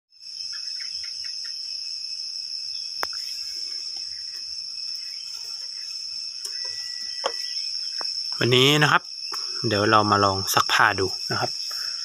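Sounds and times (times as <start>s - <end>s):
insects trilling: 0.1s - 12.0s.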